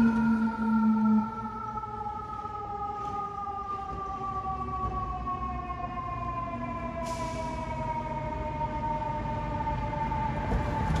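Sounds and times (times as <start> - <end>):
fire engine siren wailing: 0.0 - 11.0
low traffic rumble: 0.0 - 11.0.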